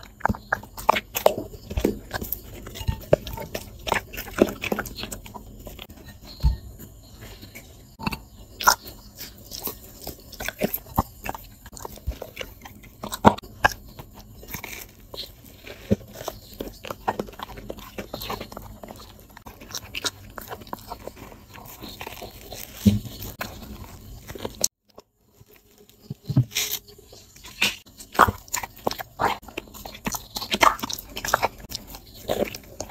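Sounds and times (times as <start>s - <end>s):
dog chewing crusty bread: 0.0s - 32.9s.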